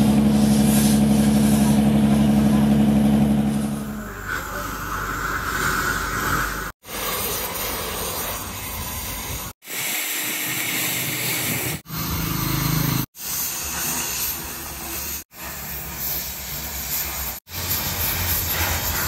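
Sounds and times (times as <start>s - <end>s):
cutting torch hissing: 0.0s - 2.6s, 3.4s - 19.0s.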